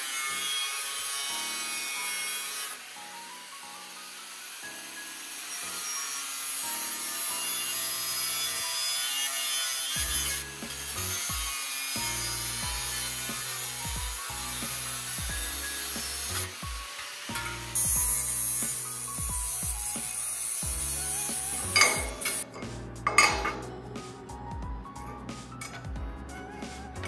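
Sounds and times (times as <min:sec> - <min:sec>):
angle grinder cutting steel: 0:00.0 - 0:23.8, 0:25.0 - 0:27.0.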